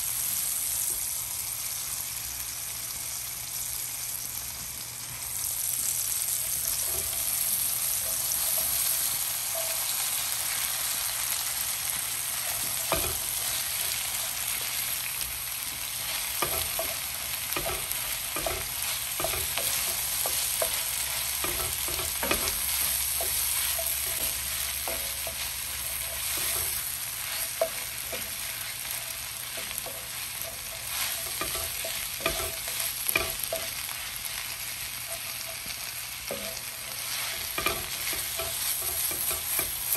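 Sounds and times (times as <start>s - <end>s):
cabbage sizzling in hot oil: 0.0s - 39.9s.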